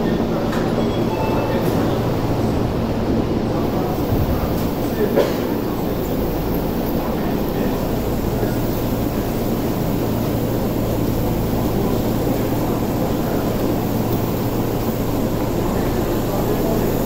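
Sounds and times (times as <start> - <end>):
electric train droning: 0.0 - 17.0.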